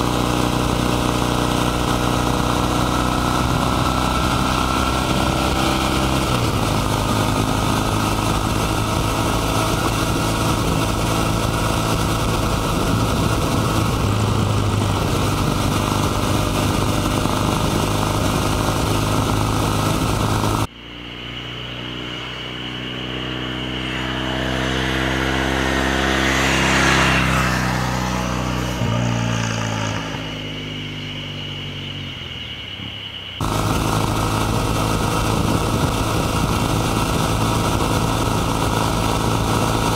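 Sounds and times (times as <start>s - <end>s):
motorcycle passing by: 0.0s - 32.3s, 33.4s - 39.9s
motorcycle engine running: 0.0s - 39.9s.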